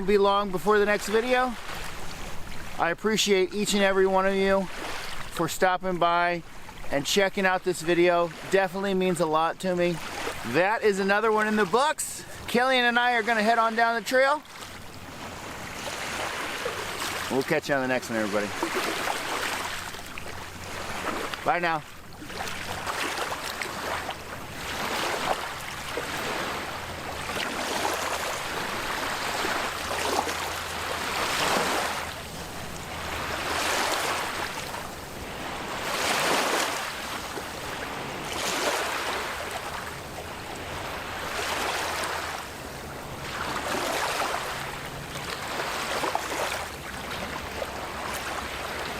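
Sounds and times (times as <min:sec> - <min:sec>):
waves breaking on beach: 0:00.0 - 0:48.9.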